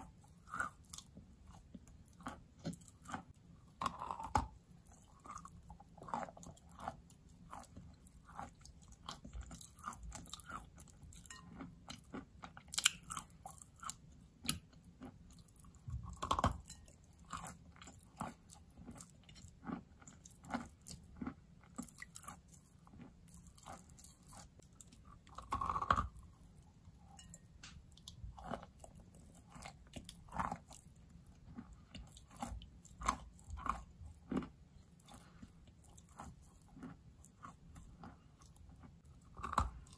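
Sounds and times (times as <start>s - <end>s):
chewing chalk crunches: 0.0s - 26.6s, 27.2s - 39.9s.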